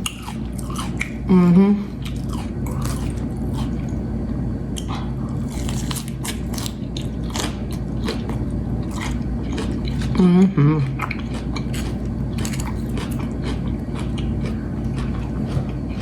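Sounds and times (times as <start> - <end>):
chewing and crunching salad: 0.0 - 4.1, 4.7 - 16.0.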